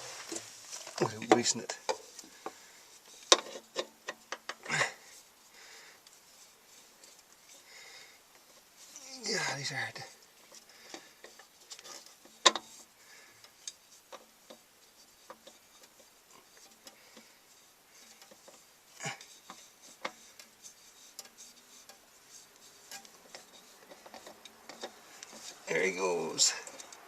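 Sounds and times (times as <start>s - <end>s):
oil filter clicks and scrapes: 0.0s - 7.7s, 8.3s - 27.0s.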